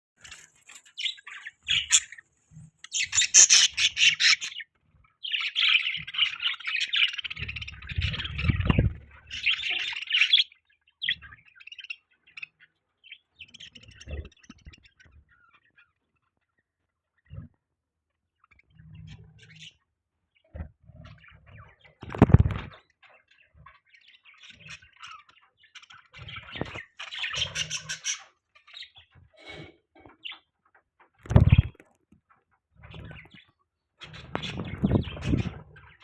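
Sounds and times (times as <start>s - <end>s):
budgerigars chirping and squawking: 0.2s - 17.5s, 18.4s - 36.0s.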